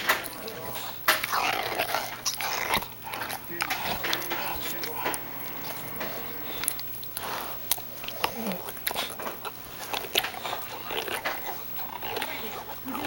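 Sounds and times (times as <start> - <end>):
dog chewing on toy: 0.0 - 13.0
dog grunting: 0.0 - 13.0.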